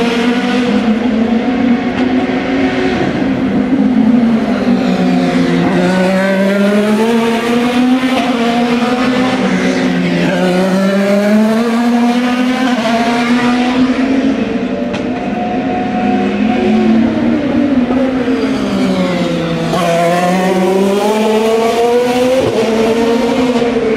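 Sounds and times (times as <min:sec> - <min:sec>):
race car engines passing: 0:00.0 - 0:23.9.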